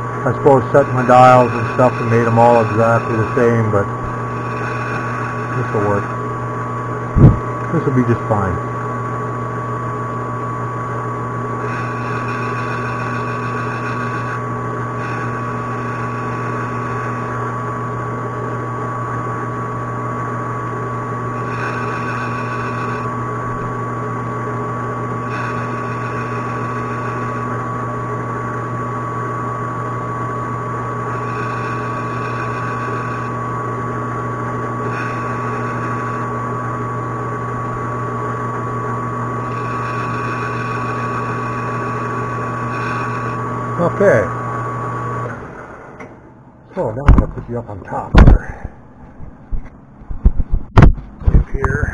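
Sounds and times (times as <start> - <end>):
lathe tool cutting tone: 0.0 - 46.1
metal lathe humming: 0.0 - 46.4.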